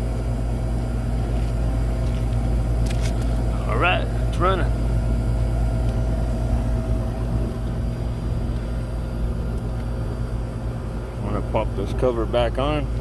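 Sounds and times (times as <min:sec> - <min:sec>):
air conditioner unit humming: 0:00.0 - 0:13.0.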